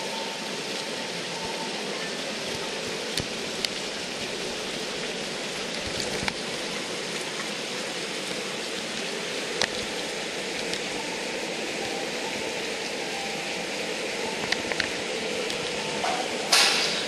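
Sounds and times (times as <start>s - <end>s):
water running into a bath: 0.0s - 17.0s.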